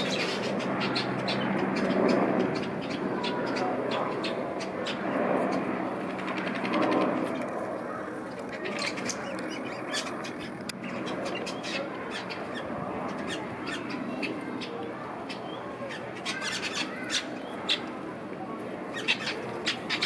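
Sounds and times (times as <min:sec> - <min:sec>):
birds chipping and squawking: 0:00.0 - 0:18.1, 0:18.8 - 0:20.0
steady bird hubbub: 0:00.0 - 0:20.0.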